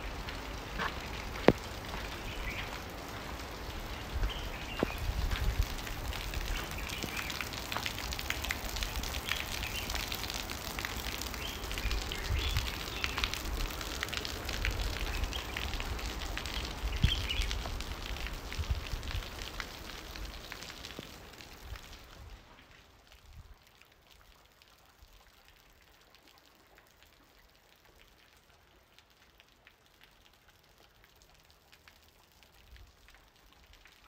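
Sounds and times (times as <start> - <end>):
heavy rain on wet ground: 0.0 - 34.0.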